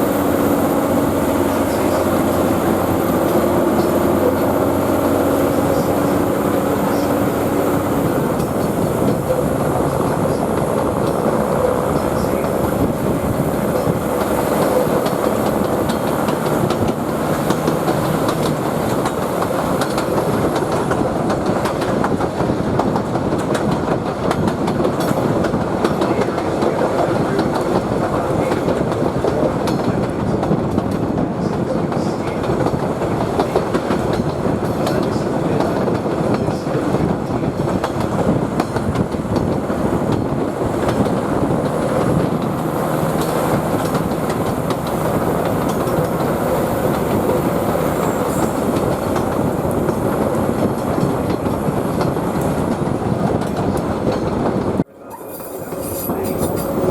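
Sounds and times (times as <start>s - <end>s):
clicks of wheels on rail: 0.0s - 56.9s
train wheels rumbling on rail: 0.0s - 56.9s.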